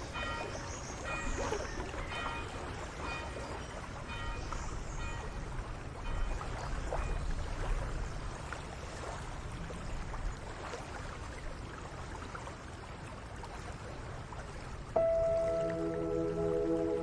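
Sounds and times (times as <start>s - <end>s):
running stream water: 0.0s - 17.0s.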